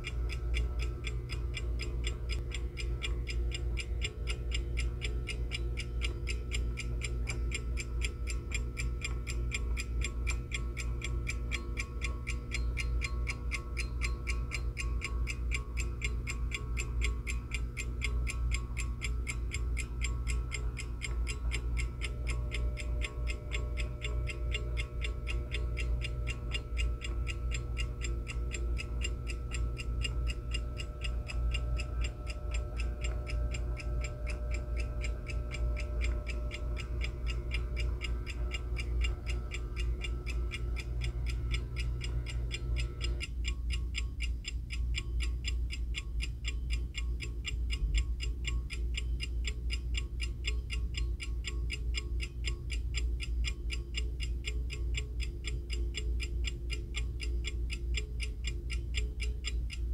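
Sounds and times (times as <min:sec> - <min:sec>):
alarm clock ticking rapidly: 0:00.0 - 0:59.9
steady low hum: 0:00.0 - 0:59.9.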